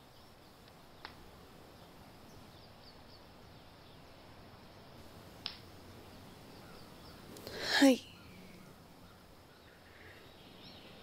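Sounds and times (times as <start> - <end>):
distant bird chirps: 0.0 - 11.0
steady low hiss: 0.0 - 11.0.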